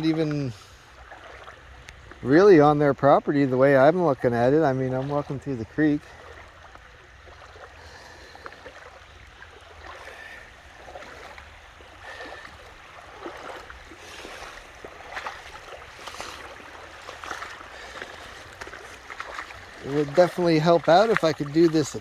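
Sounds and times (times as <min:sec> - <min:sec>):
creek water running: 0:00.0 - 0:22.0
footsteps wading through water: 0:00.0 - 0:22.0.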